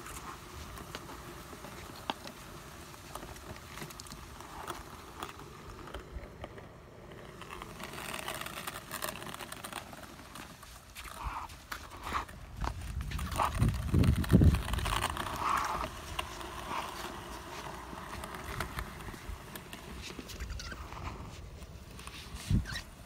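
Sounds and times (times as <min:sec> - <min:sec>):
trolley rolling over rough ice: 0:00.0 - 0:23.0.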